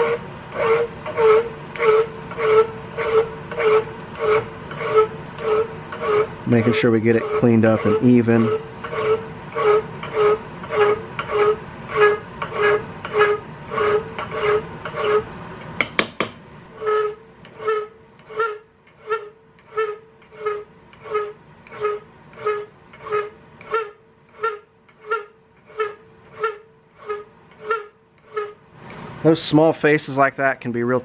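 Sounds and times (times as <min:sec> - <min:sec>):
file rasping on steel: 0:00.0 - 0:15.3, 0:16.8 - 0:28.6.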